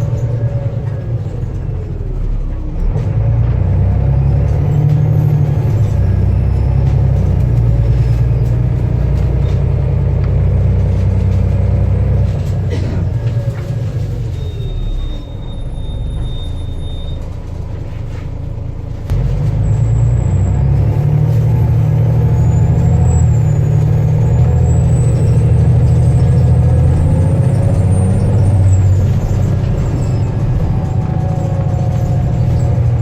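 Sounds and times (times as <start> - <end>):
bus diesel engine pulling: 0.0 - 33.0.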